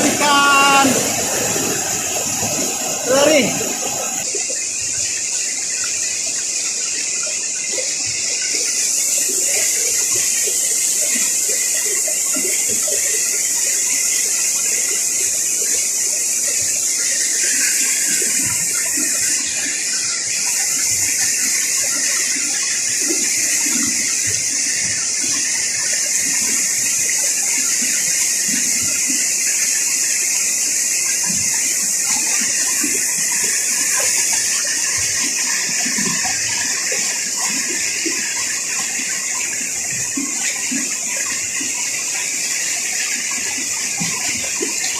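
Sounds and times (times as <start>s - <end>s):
underwater river current hiss: 0.0s - 44.9s.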